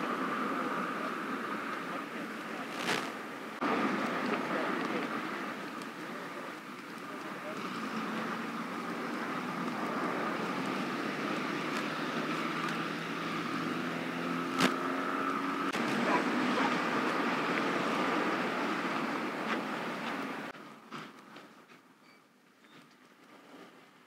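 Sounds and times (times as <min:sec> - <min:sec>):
cars passing on highway: 0:00.0 - 0:20.9.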